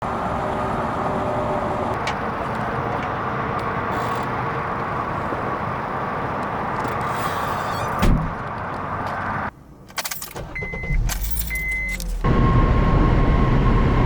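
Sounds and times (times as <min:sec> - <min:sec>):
vehicle hum: 0:00.0 - 0:14.0.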